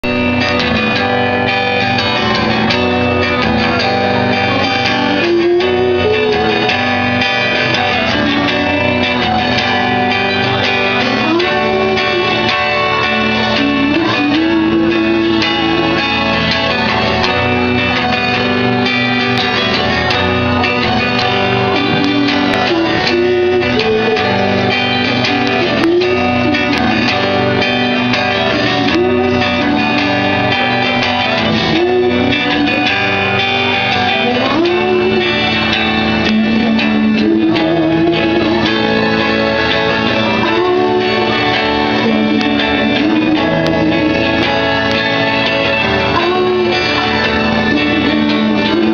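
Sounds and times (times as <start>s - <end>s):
live band playing: 0.0s - 48.9s
strummed guitars: 0.0s - 48.9s.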